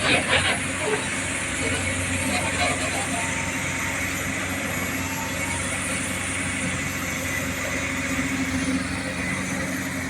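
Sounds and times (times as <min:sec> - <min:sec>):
large engine humming: 0:00.0 - 0:10.0.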